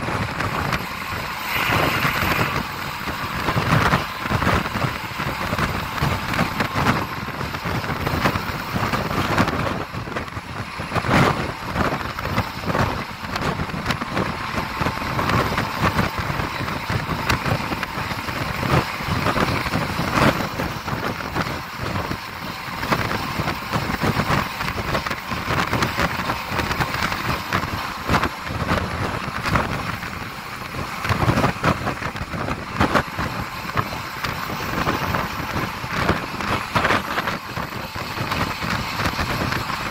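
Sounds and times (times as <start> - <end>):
bus engine: 0.0 - 39.9
road noise: 0.0 - 39.9
wind rushing over microphone: 0.0 - 39.9.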